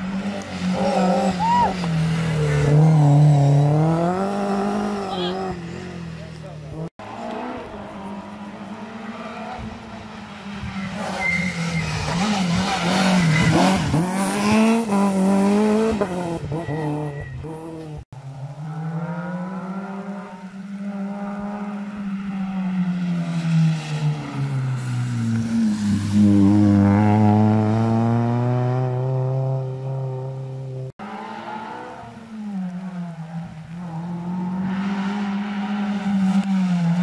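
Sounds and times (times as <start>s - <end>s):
rally car engine revving: 0.0s - 9.9s, 10.9s - 37.0s
rally car passing close: 6.8s - 37.0s.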